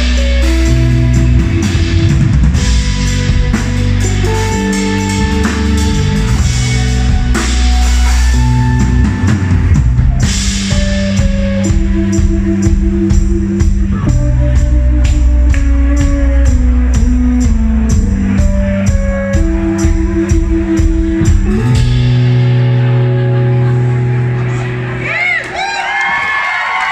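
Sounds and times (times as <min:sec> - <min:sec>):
drums beating: 0:00.0 - 0:26.9
electric guitars playing chords: 0:00.0 - 0:26.9.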